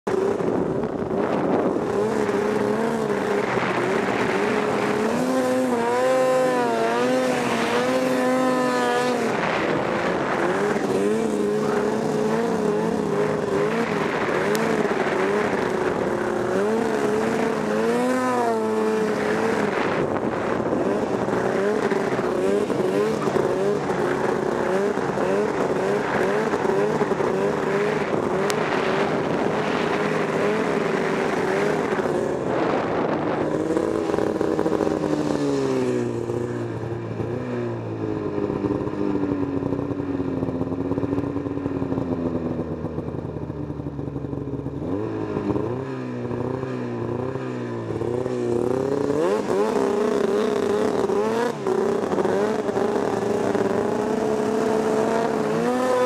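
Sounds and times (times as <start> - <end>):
snowmobile engine revving: 0.1 - 43.3, 44.0 - 56.0.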